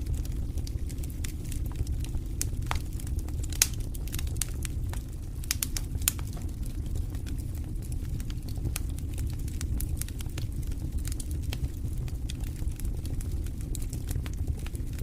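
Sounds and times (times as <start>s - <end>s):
campfire crackling: 0.0s - 15.0s
low fire rumble: 0.0s - 15.0s
fire sharp pops: 0.1s - 15.0s.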